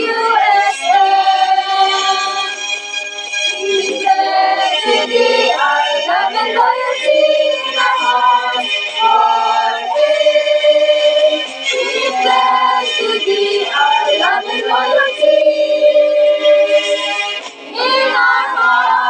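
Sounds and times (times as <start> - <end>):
women singing a hymn: 0.0 - 2.6, 3.5 - 19.0.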